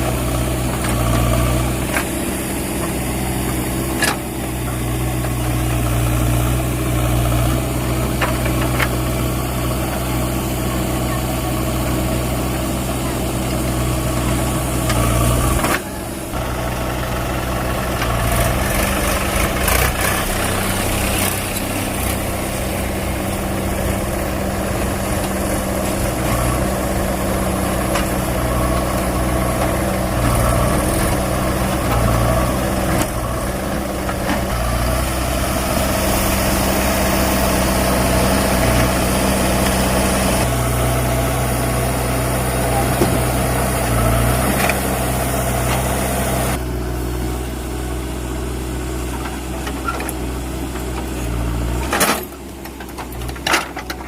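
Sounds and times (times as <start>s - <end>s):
backhoe diesel engine working: 0.0s - 54.0s.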